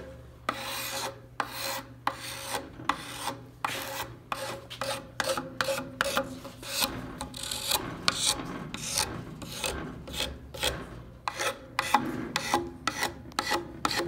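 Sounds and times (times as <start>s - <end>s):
file scraping wood: 0.5s - 14.0s.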